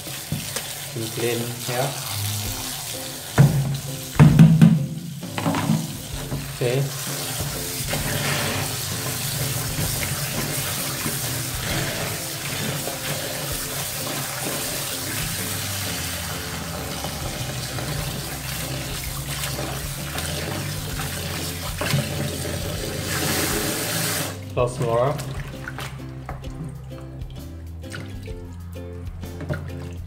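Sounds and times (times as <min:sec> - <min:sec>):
tap running into basin: 0:00.0 - 0:30.0
hands swishing vegetables in water: 0:05.2 - 0:30.0.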